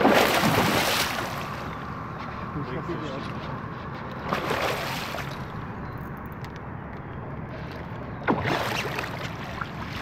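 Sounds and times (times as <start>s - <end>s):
water sloshing against boat: 0.0s - 5.7s, 7.5s - 10.0s.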